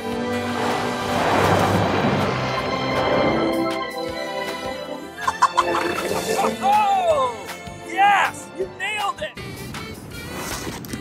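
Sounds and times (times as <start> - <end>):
film score music with held notes: 0.0 - 11.0.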